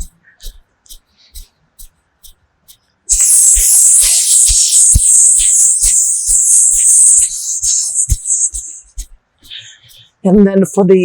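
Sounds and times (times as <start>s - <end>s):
person hissing through teeth: 0.0s - 2.4s, 3.1s - 10.1s.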